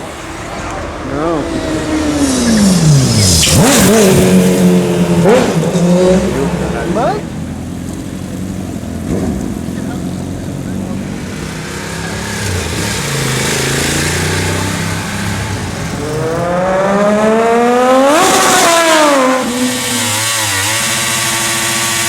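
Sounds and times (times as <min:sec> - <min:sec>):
low rumble of other engines: 0:00.0 - 0:22.0
motorcycle engine accelerating: 0:00.0 - 0:22.0.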